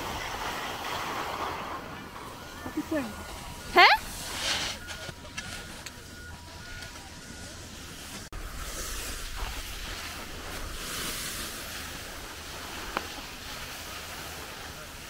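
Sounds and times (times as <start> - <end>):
skis sliding over snow: 0.0 - 15.0.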